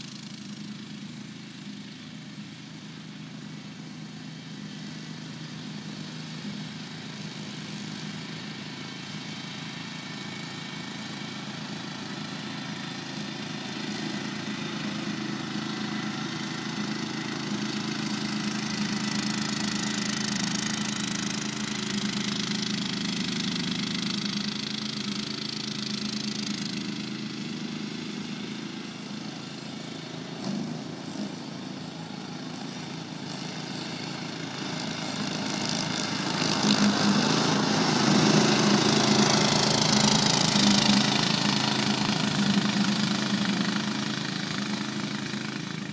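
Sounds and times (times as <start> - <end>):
ride-on mower engine mowing grass: 0.0 - 45.9.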